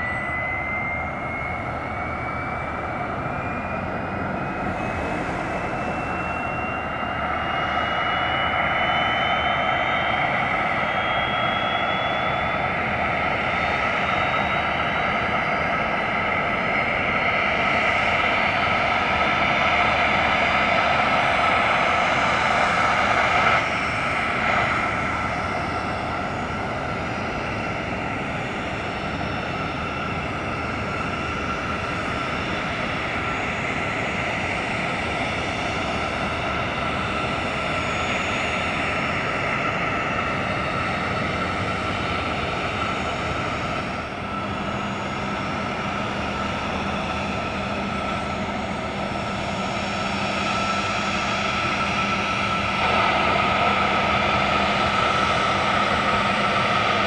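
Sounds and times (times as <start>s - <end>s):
helicopter turbines whining: 0.0s - 57.0s.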